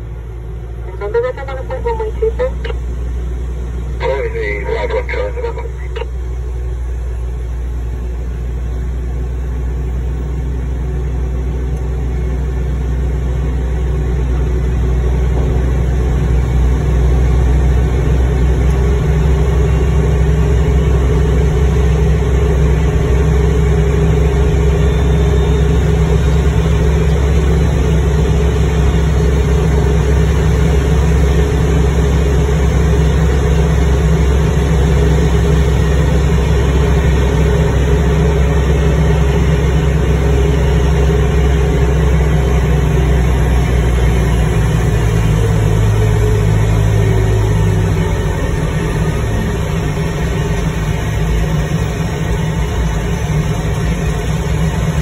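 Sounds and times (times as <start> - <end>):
tug engine running: 0.0 - 55.0.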